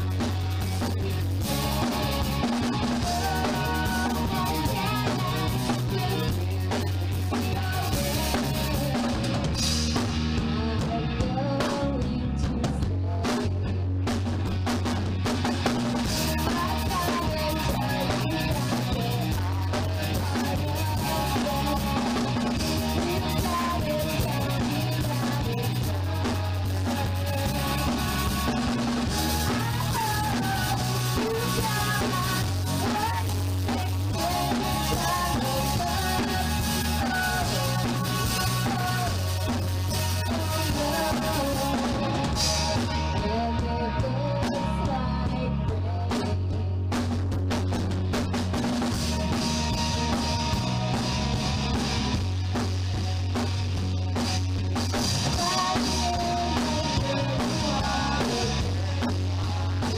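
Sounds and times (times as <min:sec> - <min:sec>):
drum kit: 0:00.0 - 0:59.9
guitars: 0:00.0 - 0:59.9
low bass line: 0:00.0 - 0:59.9.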